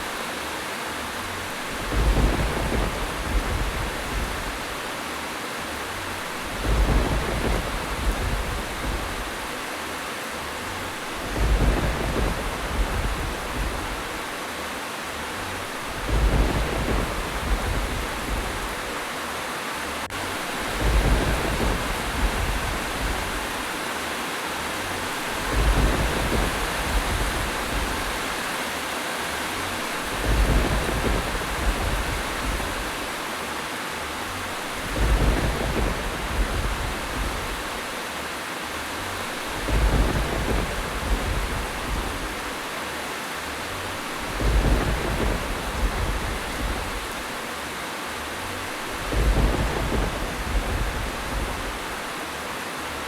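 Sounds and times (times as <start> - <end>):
heavy rain: 0.0 - 53.0
low rumble of thunder: 1.3 - 5.0, 5.7 - 9.7, 10.6 - 14.4, 15.2 - 19.1, 20.0 - 23.9, 24.6 - 28.7, 29.3 - 33.3, 34.2 - 38.1, 38.7 - 42.7, 43.6 - 47.4, 48.3 - 52.2.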